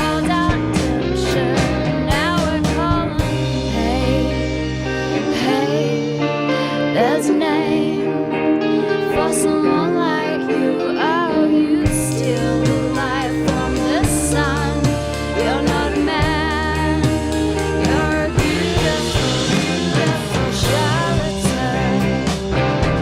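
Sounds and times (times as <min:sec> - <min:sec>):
person singing with vibrato: 0:00.0 - 0:22.5
rock band playing live: 0:00.0 - 0:23.0.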